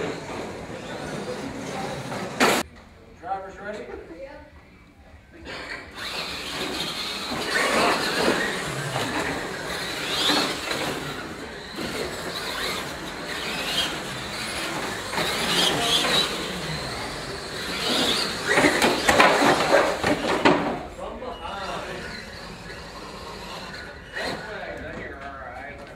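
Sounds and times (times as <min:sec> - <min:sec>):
remote control trucks whining: 0:00.0 - 0:02.7, 0:05.4 - 0:25.9.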